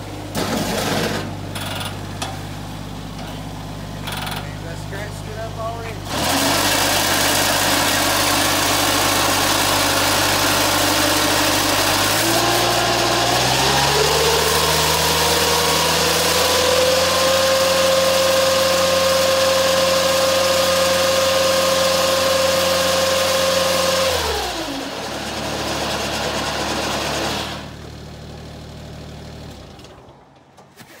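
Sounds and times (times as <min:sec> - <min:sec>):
mower engine idling and revving: 0:00.0 - 0:30.7.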